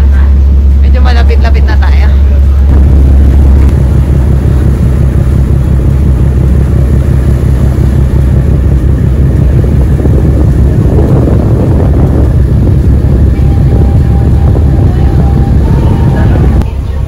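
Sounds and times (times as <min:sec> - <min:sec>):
ship engine rumble: 0:00.0 - 0:17.0
wind buffeting microphone: 0:00.0 - 0:17.0.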